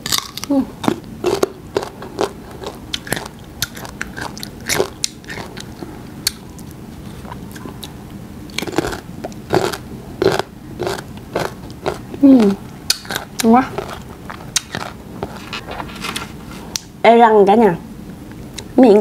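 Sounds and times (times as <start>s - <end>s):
person chewing crisp mango: 0.0s - 15.9s.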